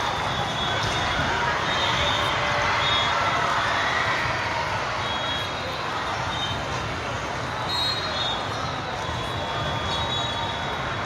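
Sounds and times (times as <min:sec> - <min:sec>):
crowd murmur in sports hall: 0:00.0 - 0:11.0.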